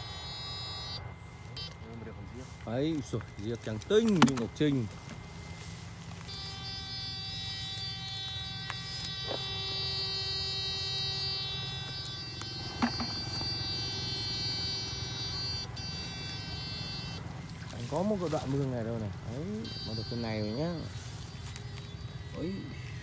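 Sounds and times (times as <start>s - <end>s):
high-pitched electrical whine: 0.0s - 23.0s
low hum: 0.0s - 23.0s.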